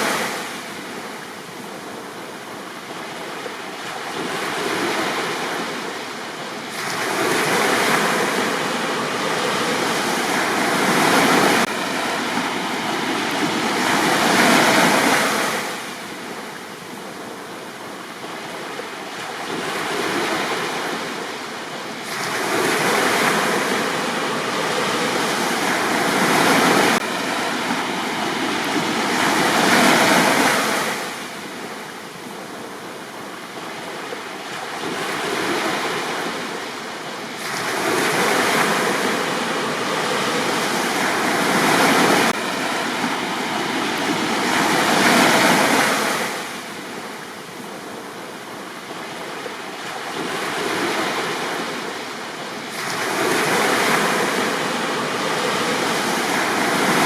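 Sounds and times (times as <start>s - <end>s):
sea waves breaking on beach: 0.0s - 57.0s.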